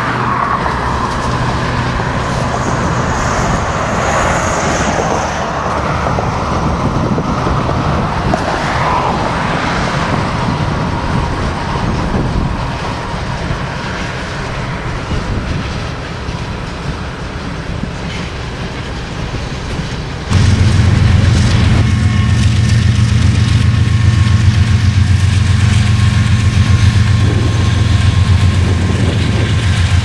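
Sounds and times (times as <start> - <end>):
freight train rolling on rails: 0.0 - 30.0.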